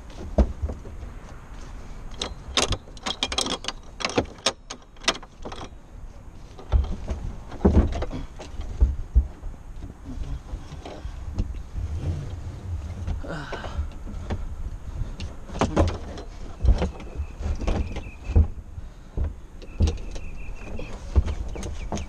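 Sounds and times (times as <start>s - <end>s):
gear thumping and rubbing: 0.0s - 22.0s.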